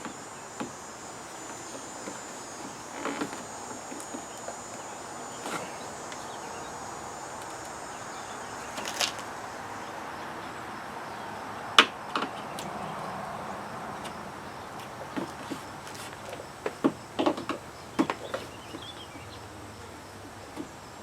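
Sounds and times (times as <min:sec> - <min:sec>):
faint insect trill: 0:00.0 - 0:21.0
steady outdoor hiss: 0:00.0 - 0:21.0.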